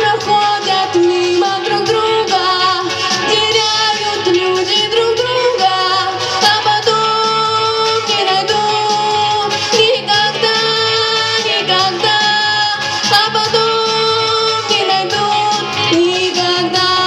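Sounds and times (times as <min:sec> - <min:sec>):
instrumental backing track: 0:00.0 - 0:17.0
woman singing: 0:00.0 - 0:17.0.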